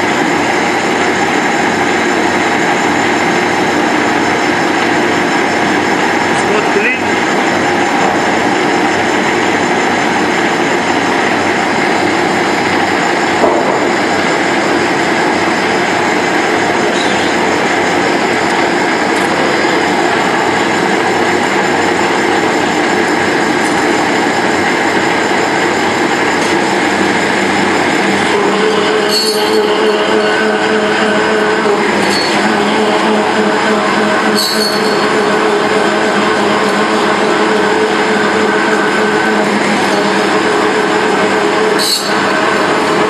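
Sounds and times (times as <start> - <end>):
thread rolling machine running: 0.0 - 43.0.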